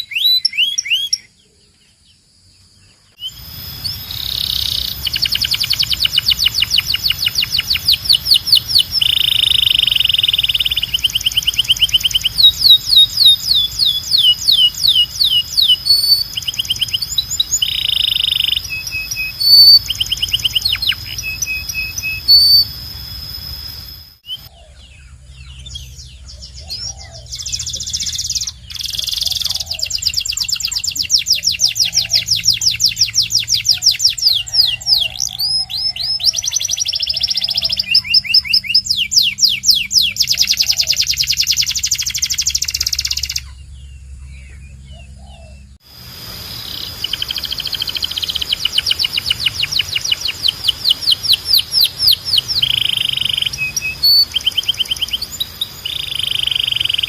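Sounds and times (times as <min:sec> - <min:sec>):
canary singing trills: 0:00.0 - 0:02.1, 0:02.8 - 0:57.0.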